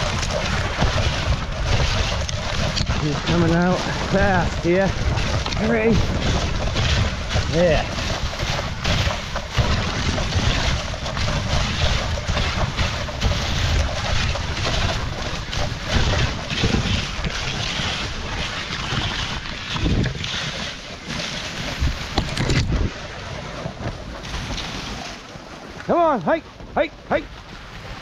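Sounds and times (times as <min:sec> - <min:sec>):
sled runners scraping over snow: 0:00.0 - 0:28.0
wind buffeting microphone: 0:00.0 - 0:28.0.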